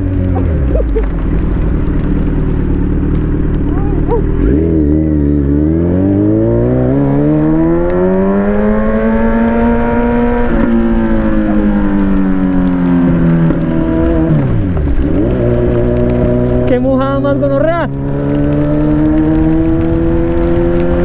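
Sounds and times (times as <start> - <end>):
motorcycle engine revving: 0.0 - 21.0
wind noise: 0.0 - 21.0.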